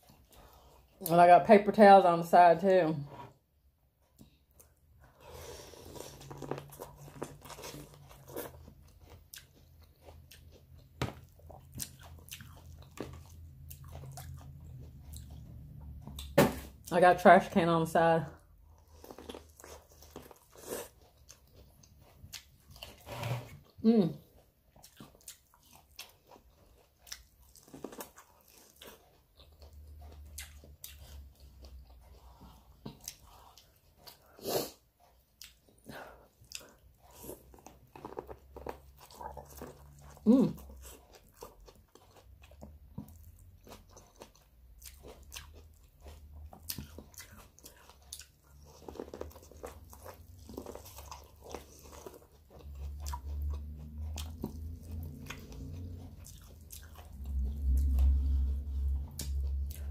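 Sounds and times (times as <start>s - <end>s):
crunchy bites and chewing: 5.1s - 16.8s, 18.8s - 23.7s, 24.8s - 34.8s, 35.4s - 58.2s.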